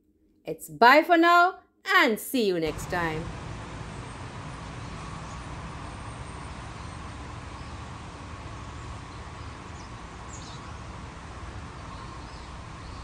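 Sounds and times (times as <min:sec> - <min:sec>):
steady hiss and low rumble: 0:02.2 - 0:13.0.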